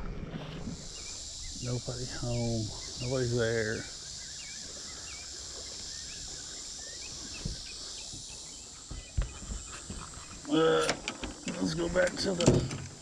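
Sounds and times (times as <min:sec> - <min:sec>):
birds chirping: 0:00.0 - 0:13.0
insects hissing: 0:00.0 - 0:13.0.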